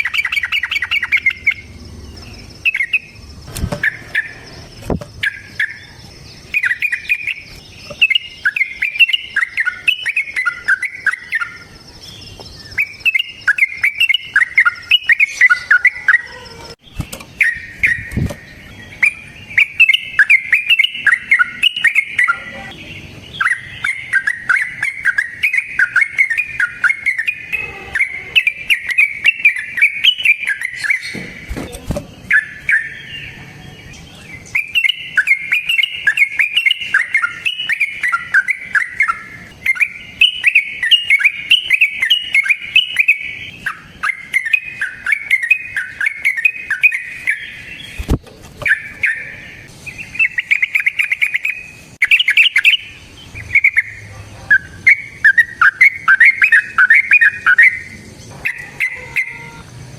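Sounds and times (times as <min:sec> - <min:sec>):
bird chattering song: 0:00.0 - 0:59.9.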